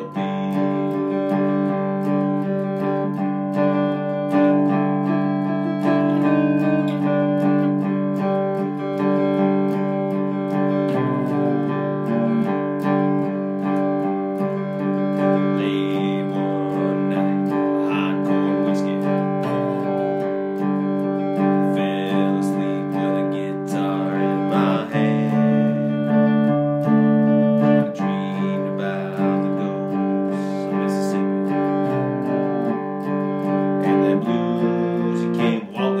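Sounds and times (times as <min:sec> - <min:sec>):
slide guitar playing: 0:00.0 - 0:36.0.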